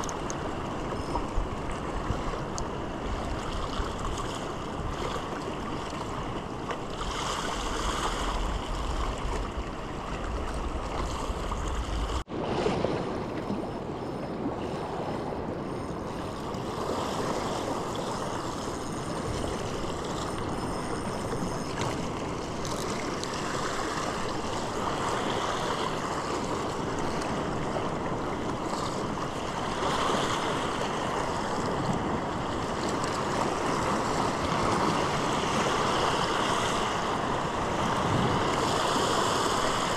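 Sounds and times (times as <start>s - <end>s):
wind rumble on microphone: 0.0s - 39.9s
sea waves washing over rocks: 1.6s - 39.9s.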